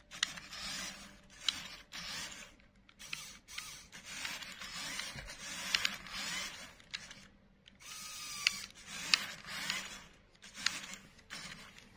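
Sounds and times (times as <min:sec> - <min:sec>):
toy car motor whirring: 0:00.0 - 0:11.9
sharp clicks: 0:01.4 - 0:11.9.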